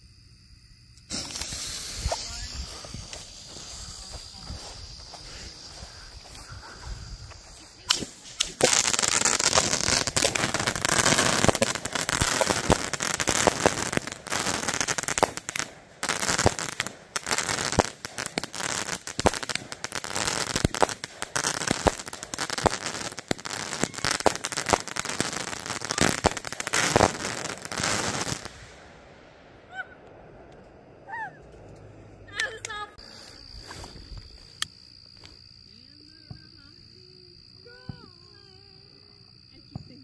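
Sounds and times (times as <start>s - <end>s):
fireworks crackling and banging: 1.0s - 39.0s.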